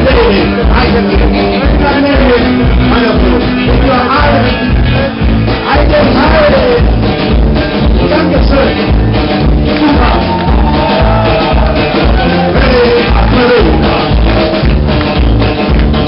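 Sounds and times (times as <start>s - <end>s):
bass: 0.0s - 16.0s
drums: 0.0s - 16.0s
live country band playing: 0.0s - 16.0s.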